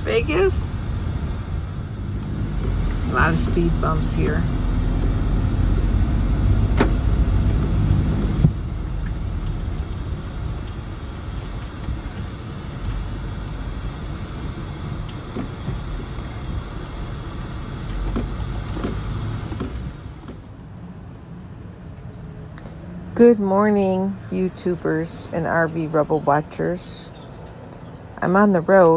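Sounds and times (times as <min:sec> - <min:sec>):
van engine and road rumble: 0:00.0 - 0:28.9.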